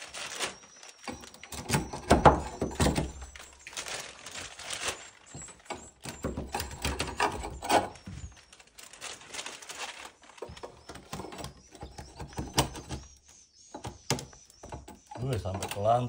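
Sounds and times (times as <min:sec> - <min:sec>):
faint high bird chirps: 0:00.0 - 0:16.0
nests pried off wooden planks: 0:00.1 - 0:13.2.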